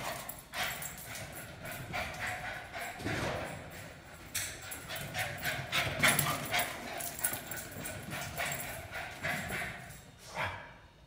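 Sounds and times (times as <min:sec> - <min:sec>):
footsteps in a hallway: 0:00.0 - 0:10.9.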